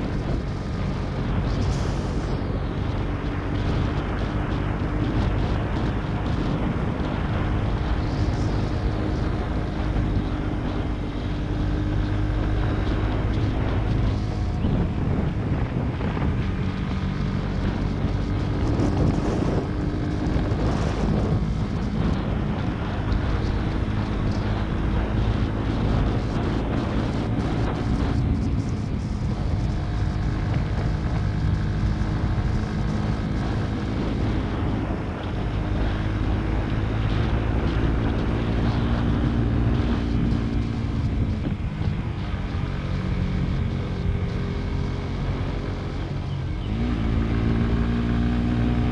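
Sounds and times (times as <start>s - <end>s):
motorcycle engine running: 0.0s - 48.9s
wind noise on microphone: 0.0s - 48.9s.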